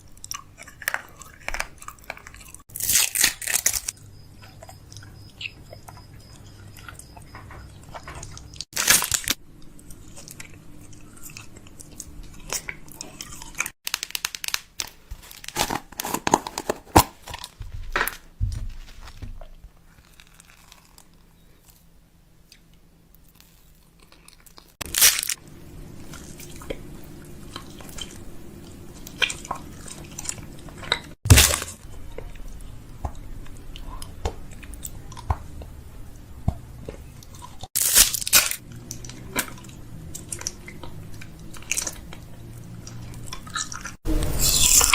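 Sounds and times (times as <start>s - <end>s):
crunchy snacks being chewed: 0.0s - 17.6s, 19.0s - 35.8s, 36.8s - 44.9s.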